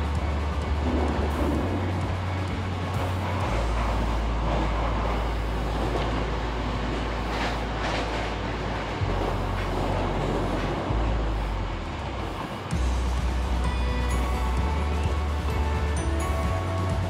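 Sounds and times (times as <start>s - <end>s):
passing train rush: 0.0s - 17.0s
train rumble from inside carriage: 0.0s - 17.0s.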